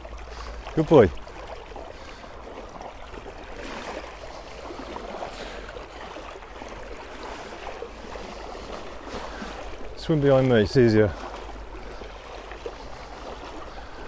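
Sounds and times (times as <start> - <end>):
river water sloshing and splashing: 0.0 - 14.0.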